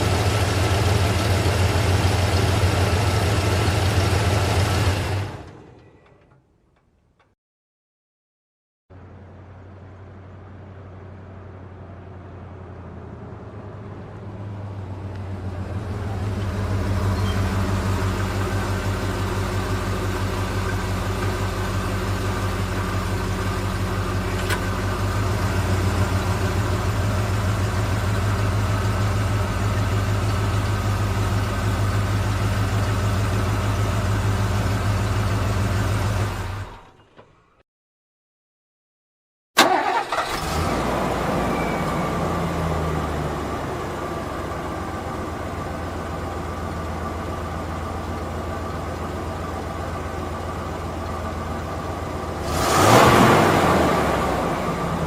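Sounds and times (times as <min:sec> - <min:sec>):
vehicle engine running: 0:00.0 - 0:05.8, 0:08.9 - 0:36.9, 0:40.0 - 0:55.0.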